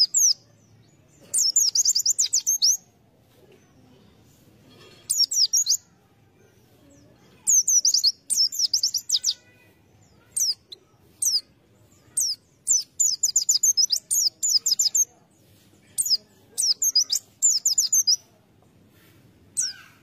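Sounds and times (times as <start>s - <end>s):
bird chirping: 0.0s - 2.9s, 4.7s - 5.9s, 6.8s - 18.3s, 19.6s - 20.0s.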